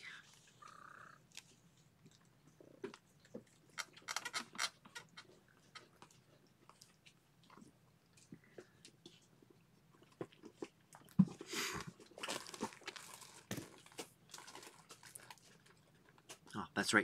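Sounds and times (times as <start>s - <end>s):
kittens wrestling clicks and rustling: 0.3s - 16.5s.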